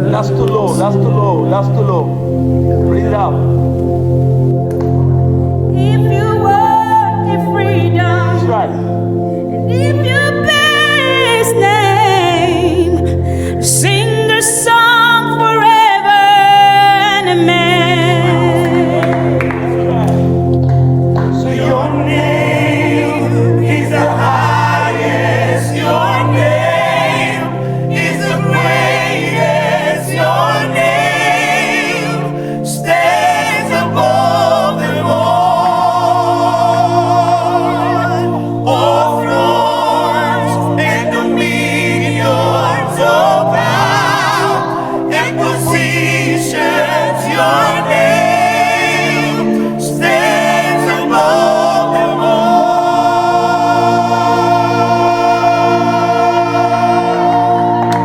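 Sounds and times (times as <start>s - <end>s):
group singing gospel song: 0.0s - 58.0s
low held accompaniment notes: 0.0s - 58.0s.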